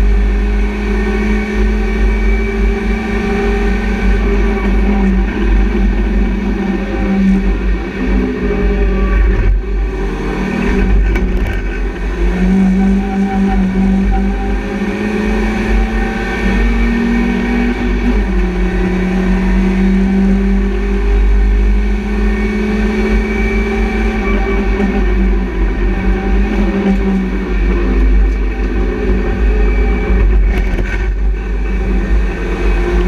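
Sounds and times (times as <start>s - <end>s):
race car engine revving hard: 0.0s - 33.0s
road and wind noise: 0.0s - 33.0s.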